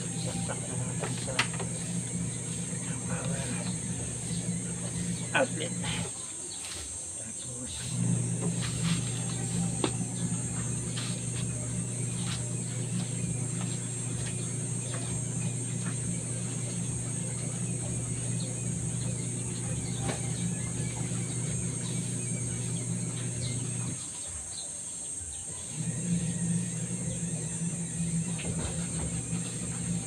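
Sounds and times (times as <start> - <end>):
electric motor humming: 0.0 - 6.8, 7.4 - 24.5, 25.2 - 30.0.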